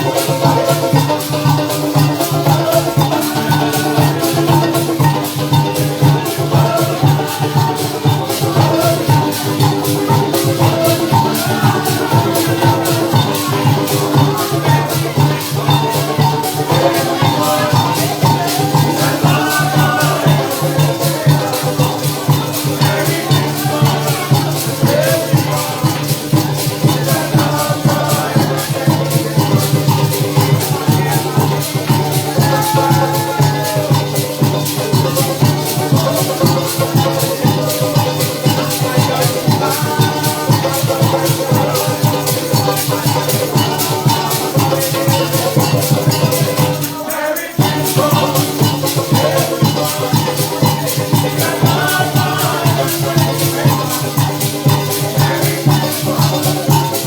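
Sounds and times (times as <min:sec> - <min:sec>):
maracas shaking: 0:00.0 - 0:57.0
string instruments: 0:00.0 - 0:57.0.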